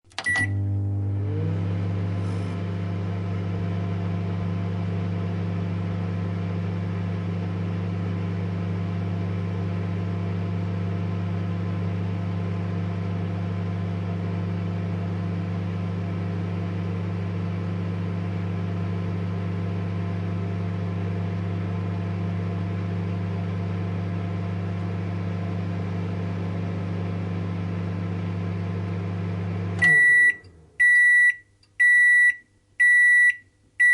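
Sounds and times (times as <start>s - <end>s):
microwave oven humming: 0.1s - 33.9s.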